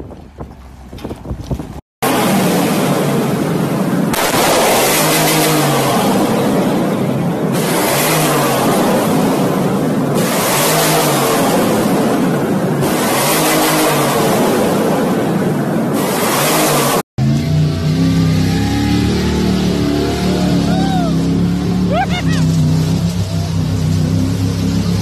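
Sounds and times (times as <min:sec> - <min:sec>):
engine running: 0:00.0 - 0:25.0
exhaust crackling and banging: 0:00.0 - 0:25.0
truck engine revving: 0:00.0 - 0:25.0.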